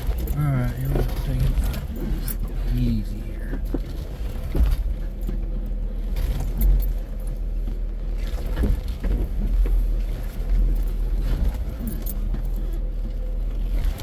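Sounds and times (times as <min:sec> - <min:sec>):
engine and drivetrain rumble: 0:00.0 - 0:14.0
knocks and rattles over rocks: 0:00.0 - 0:14.0.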